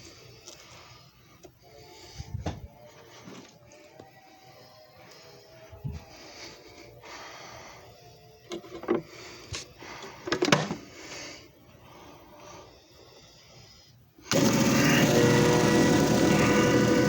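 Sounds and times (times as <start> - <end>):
faint background noise: 0.0 - 14.3.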